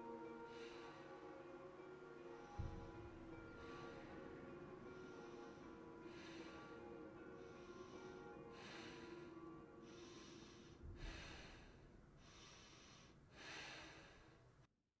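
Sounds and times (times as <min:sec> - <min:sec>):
low steady drone: 0:00.0 - 0:14.2
person breathing heavily: 0:02.2 - 0:14.6.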